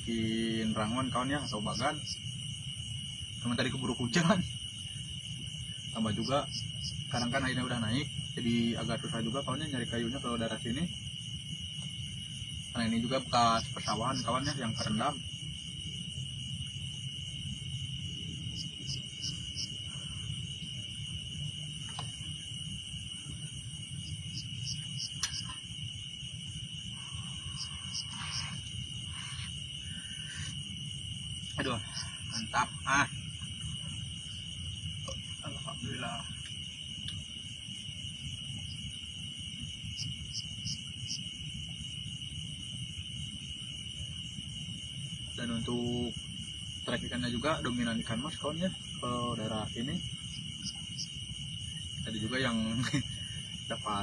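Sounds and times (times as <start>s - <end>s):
crickets trilling: 0.0s - 54.0s
insects chirring: 0.0s - 54.0s.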